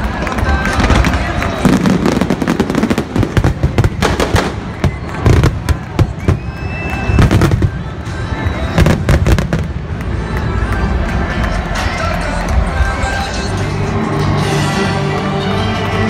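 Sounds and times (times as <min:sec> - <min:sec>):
firework bangs and crackles: 0:00.0 - 0:14.0.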